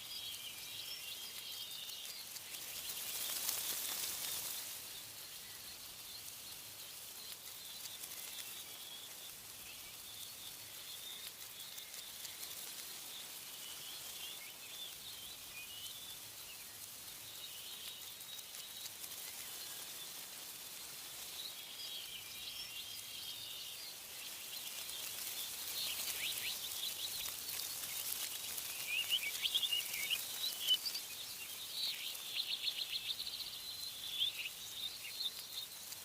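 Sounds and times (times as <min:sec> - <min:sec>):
songbirds chirping and trilling: 0:00.0 - 0:36.0
wind in the trees: 0:00.0 - 0:36.0.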